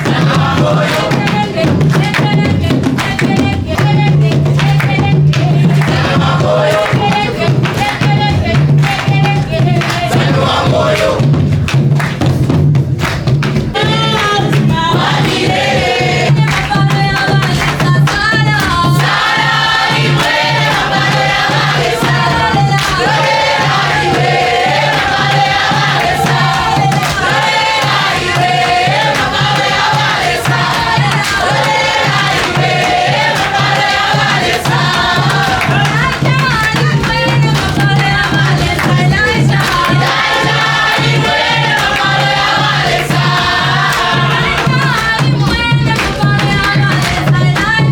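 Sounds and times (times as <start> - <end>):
group singing a worship song: 0.0 - 47.9.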